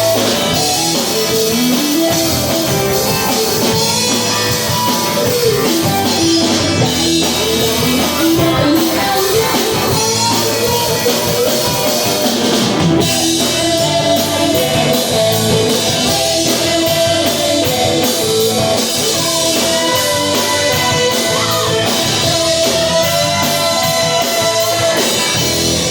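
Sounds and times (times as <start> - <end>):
rock music: 0.0 - 25.9.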